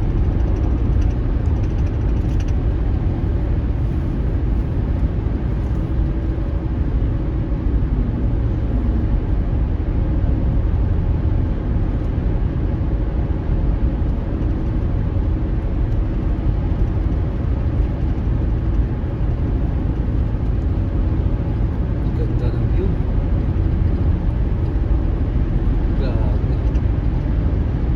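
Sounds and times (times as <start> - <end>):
car engine and road noise: 0.0 - 27.9.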